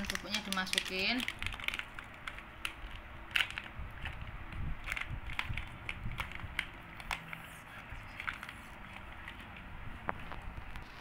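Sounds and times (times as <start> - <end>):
plastic sachet crinkling: 0.0 - 11.0.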